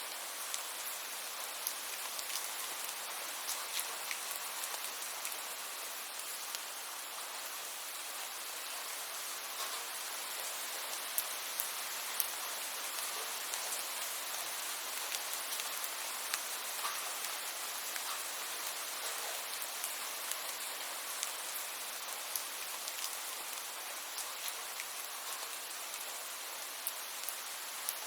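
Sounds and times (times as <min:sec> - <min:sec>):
raindrops ticking on surface: 0:00.1 - 0:07.2, 0:09.4 - 0:28.0.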